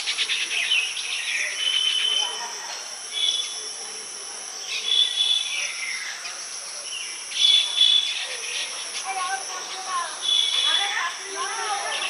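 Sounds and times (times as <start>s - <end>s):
birds chattering calls: 0.0s - 12.0s
steady high hiss: 0.0s - 12.0s.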